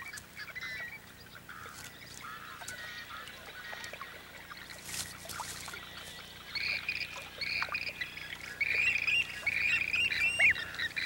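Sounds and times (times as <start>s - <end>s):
waterbirds calling: 0.0s - 11.0s.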